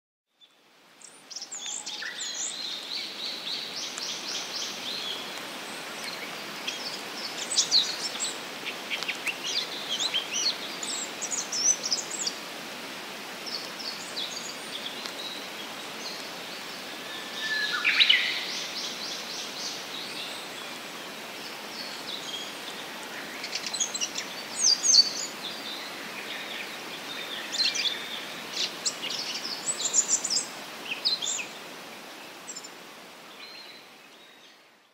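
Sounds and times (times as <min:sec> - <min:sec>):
background hiss: 0:00.4 - 0:34.9.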